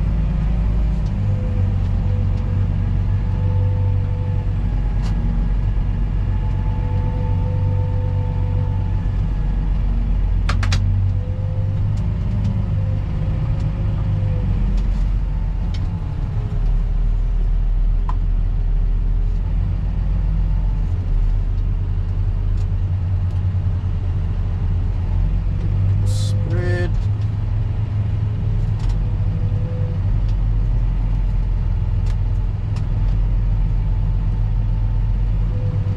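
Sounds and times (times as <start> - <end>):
heavy machine engine rumble: 0.0 - 35.9.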